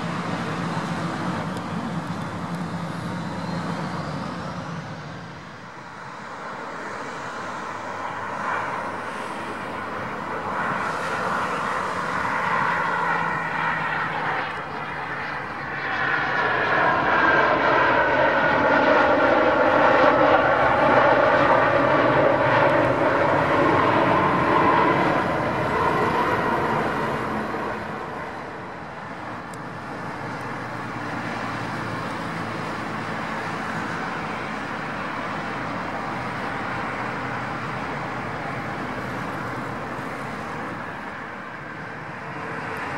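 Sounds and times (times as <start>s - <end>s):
engine whine gliding down: 0.0s - 42.9s
jet engines at taxi power: 0.0s - 42.9s
jet engines reverse thrust roar: 0.0s - 42.9s.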